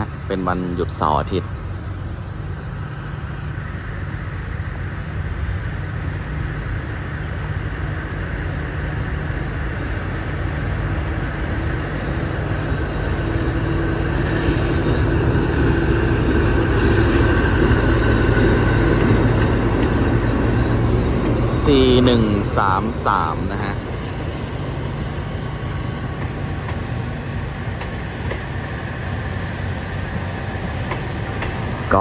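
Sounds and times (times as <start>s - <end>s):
locomotive engine rumble: 0.0s - 32.0s.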